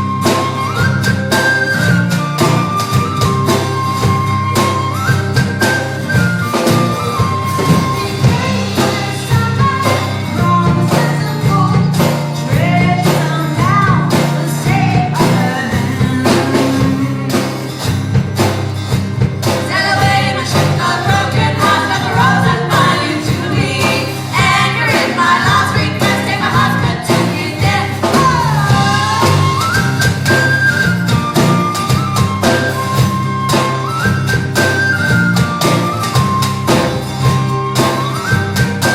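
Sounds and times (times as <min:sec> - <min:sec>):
drum beat: 0:00.0 - 0:38.9
live band music: 0:00.0 - 0:38.9.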